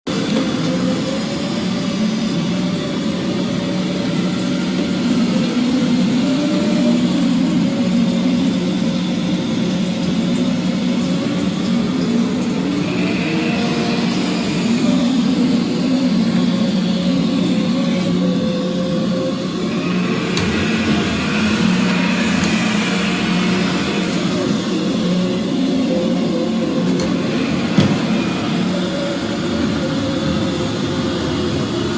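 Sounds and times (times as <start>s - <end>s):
robot vacuum cleaner humming: 0.1s - 31.9s.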